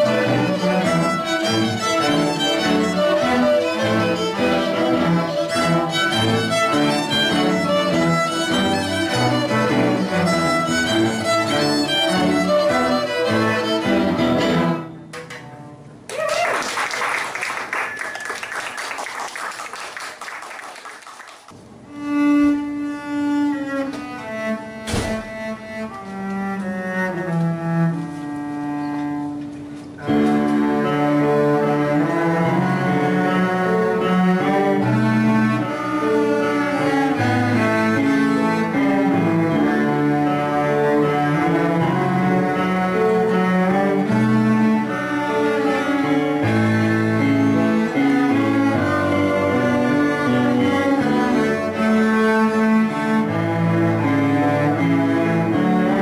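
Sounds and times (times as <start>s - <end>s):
slow held cello notes: 0.0s - 15.9s, 21.9s - 56.0s
string ensemble playing: 0.0s - 16.0s, 21.9s - 56.0s.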